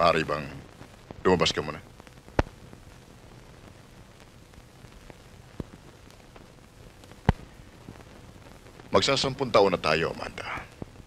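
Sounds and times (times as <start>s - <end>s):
film soundtrack hiss: 0.0s - 11.0s.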